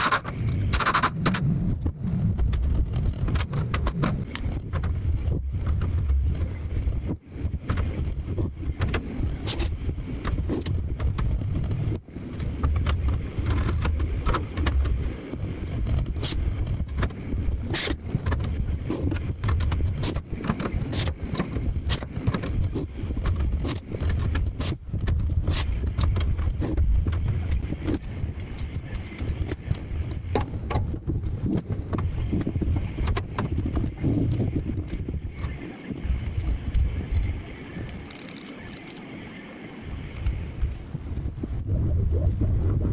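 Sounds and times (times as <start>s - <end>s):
steady low rumble: 0.0s - 38.1s, 39.2s - 42.9s.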